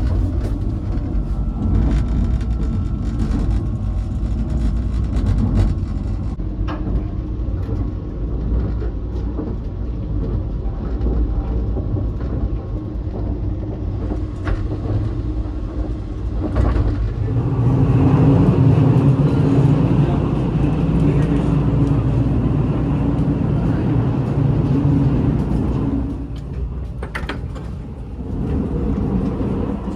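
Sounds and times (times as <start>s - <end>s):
train rumble inside carriage: 0.0s - 29.9s.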